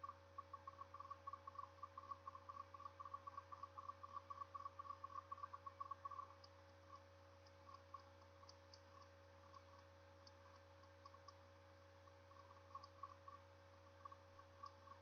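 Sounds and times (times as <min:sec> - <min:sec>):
faint irregular clicks: 0:00.0 - 0:15.0
faint steady hum: 0:00.0 - 0:15.0.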